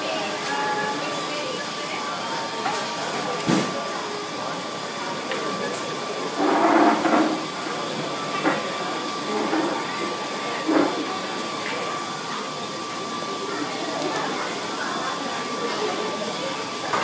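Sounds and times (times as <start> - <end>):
indistinct voices: 0.0 - 17.0.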